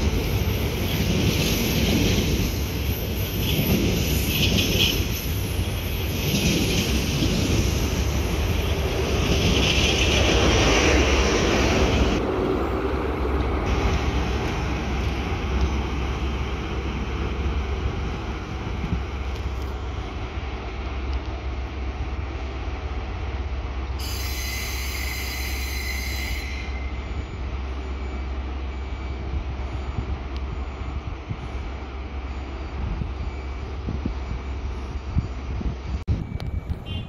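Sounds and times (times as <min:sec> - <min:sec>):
freight train passing: 0:00.0 - 0:37.0.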